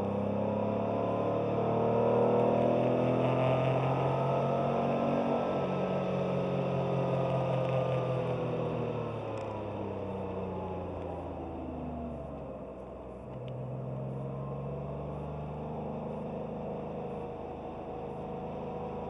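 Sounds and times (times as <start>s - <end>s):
car engine cruising: 0.0s - 19.0s.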